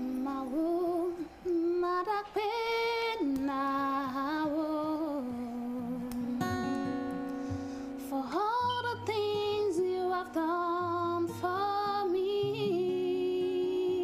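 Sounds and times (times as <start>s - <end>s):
acoustic guitar: 0.0s - 14.0s
woman singing: 0.0s - 14.0s.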